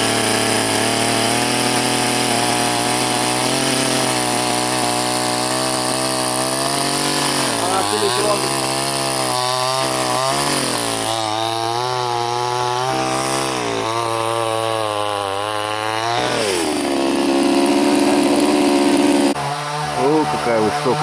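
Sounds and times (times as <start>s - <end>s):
chainsaw cutting a log: 0.0s - 21.0s.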